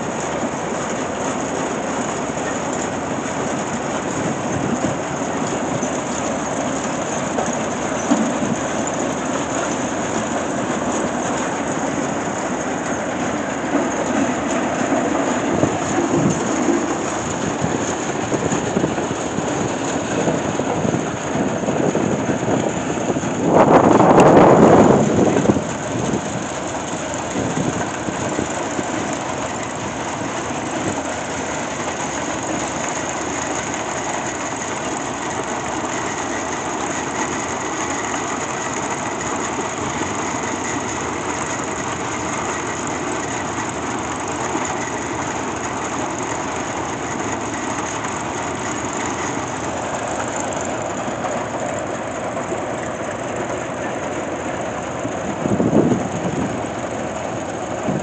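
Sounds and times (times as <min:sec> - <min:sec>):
machinery clattering: 0:00.0 - 0:58.0.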